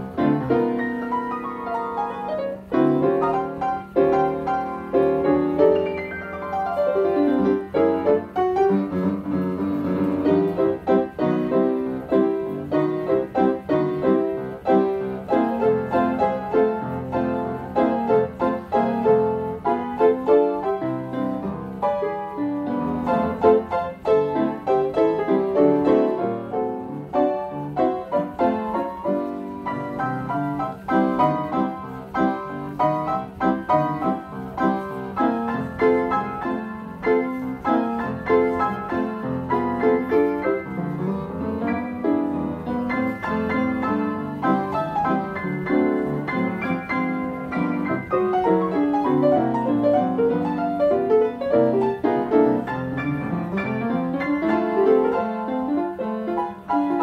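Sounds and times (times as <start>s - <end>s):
player piano playing ragtime: 0.0s - 57.0s.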